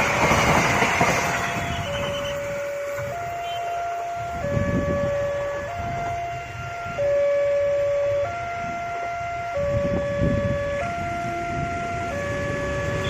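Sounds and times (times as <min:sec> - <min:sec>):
train rumbling: 0:00.0 - 0:07.0, 0:07.7 - 0:13.0
two-tone siren: 0:01.2 - 0:13.0.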